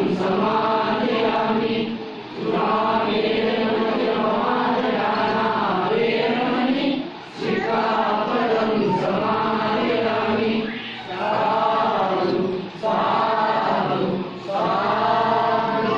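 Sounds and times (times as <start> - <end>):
congregation chanting in unison: 0.0 - 15.9.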